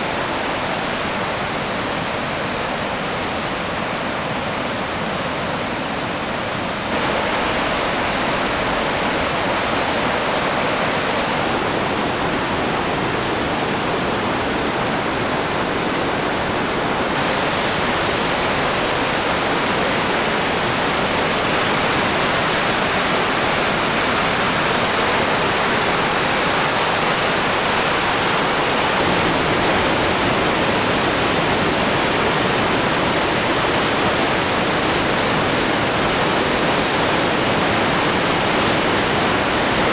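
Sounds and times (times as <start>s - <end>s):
floodwater rushing: 0.0s - 39.9s
waterfall pouring over road: 0.0s - 39.9s.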